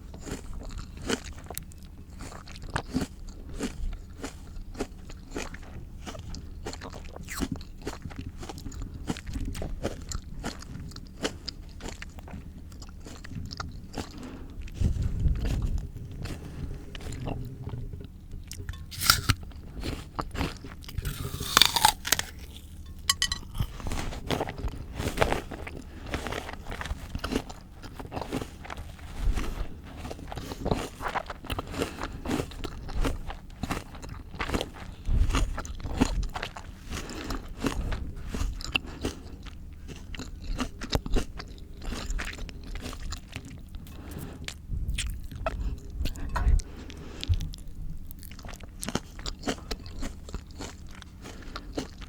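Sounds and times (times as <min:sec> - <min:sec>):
crunching and chewing raw fruit: 0:00.0 - 0:52.0.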